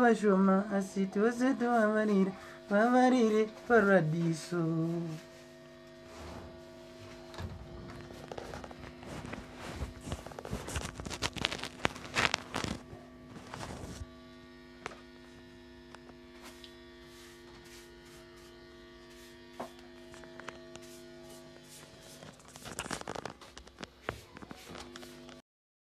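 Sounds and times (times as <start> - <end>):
electric guitar mains hum: 0.0 - 25.4.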